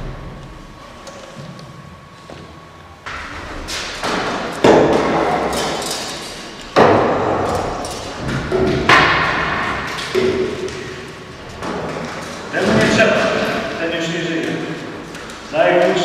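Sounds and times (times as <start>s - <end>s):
hammer blows echoing in a hall: 2.3s - 16.0s.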